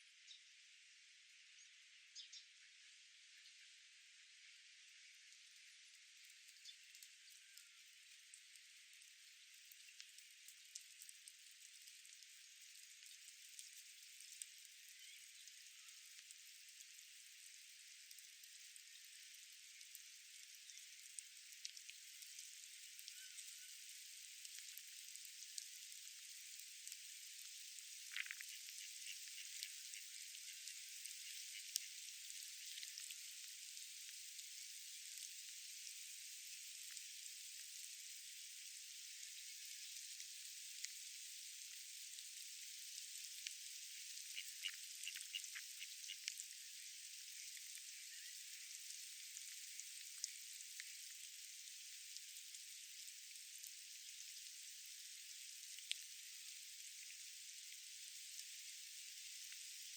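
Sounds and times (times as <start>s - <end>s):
faint outdoor hiss: 0.0s - 59.9s.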